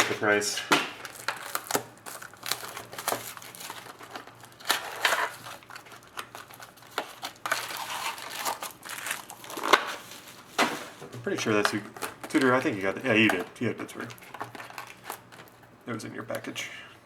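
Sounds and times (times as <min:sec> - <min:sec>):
plastic wrapping crinkling and tearing: 0:00.0 - 0:15.6.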